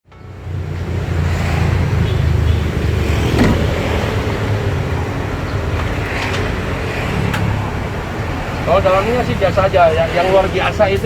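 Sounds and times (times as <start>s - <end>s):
traffic rumble: 0.1s - 11.0s.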